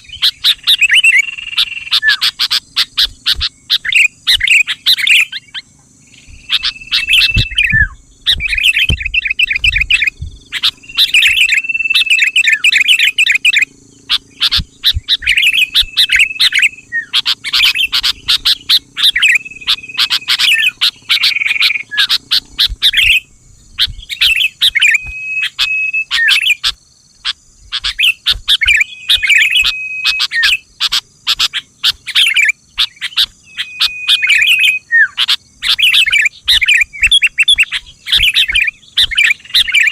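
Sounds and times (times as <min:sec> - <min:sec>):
bulbul singing chirpy phrases: 0:00.0 - 0:39.9.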